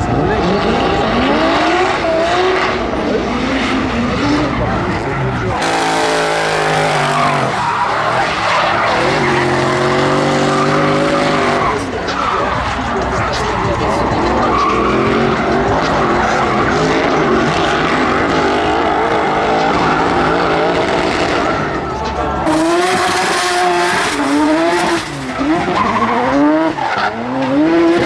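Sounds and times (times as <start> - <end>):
car engines revving hard: 0.0 - 28.0
tyres squealing on tarmac: 3.5 - 28.0.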